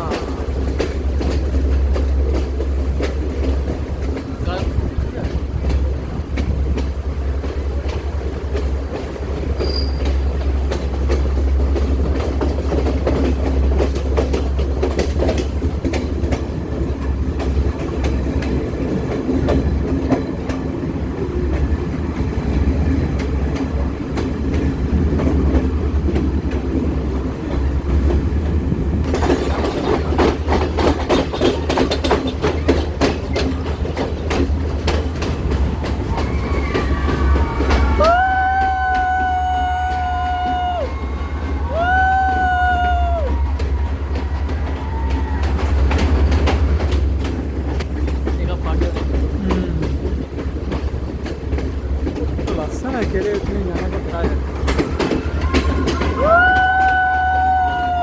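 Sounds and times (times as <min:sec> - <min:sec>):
train rumbling along the line: 0:00.0 - 0:58.0
wheels clacking over rail joints: 0:00.0 - 0:58.0.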